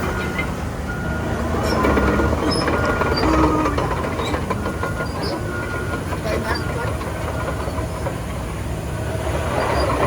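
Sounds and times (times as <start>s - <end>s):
clanking steel tracks: 0.0s - 10.0s
diesel engine running: 0.0s - 10.0s.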